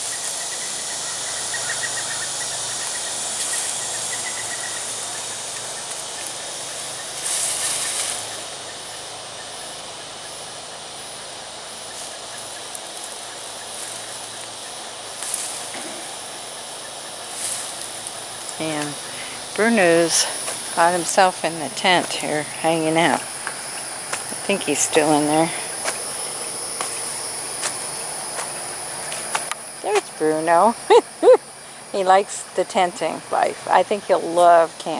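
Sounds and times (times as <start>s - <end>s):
constant hiss: 0.0s - 34.9s
high-pitched insect drone: 0.0s - 34.9s.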